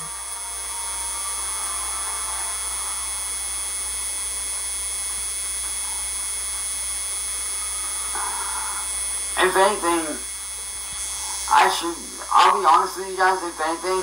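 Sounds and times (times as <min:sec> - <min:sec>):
electrical hum and hiss: 0:00.0 - 0:14.0
faint high whine: 0:00.0 - 0:14.0.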